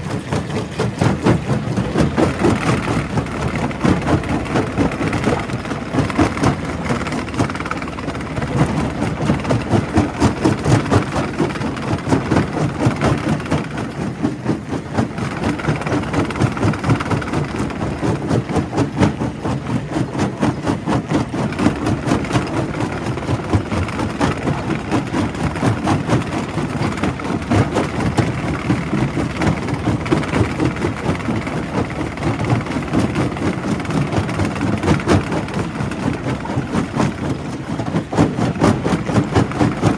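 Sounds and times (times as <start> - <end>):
rock crusher rumbling: 0.0 - 39.9.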